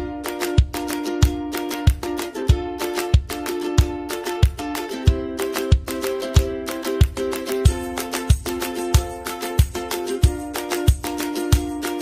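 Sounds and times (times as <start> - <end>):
background music with low drum beat: 0.0 - 12.0.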